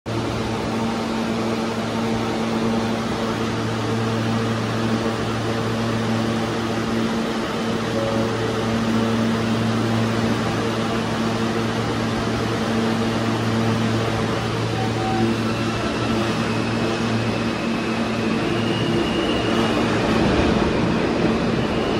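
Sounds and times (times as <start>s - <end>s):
subway train electric hum: 0.1s - 21.9s.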